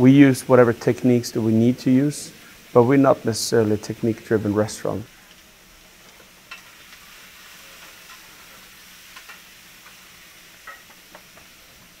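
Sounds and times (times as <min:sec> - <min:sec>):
fire popping: 0:00.0 - 0:12.0
wood fire crackling: 0:00.0 - 0:12.0.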